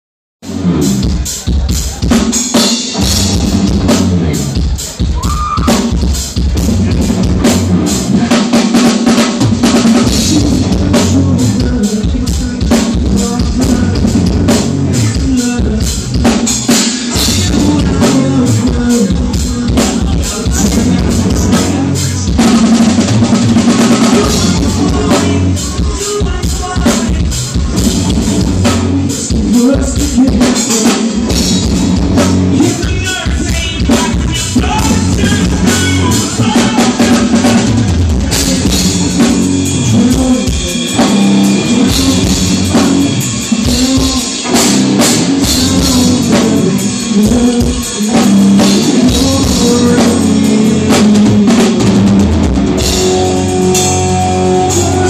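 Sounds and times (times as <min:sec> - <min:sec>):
drum kit: 0:00.4 - 0:55.0
live metal band playing: 0:00.4 - 0:55.0
lead vocalist singing: 0:10.0 - 0:31.8, 0:32.4 - 0:55.0.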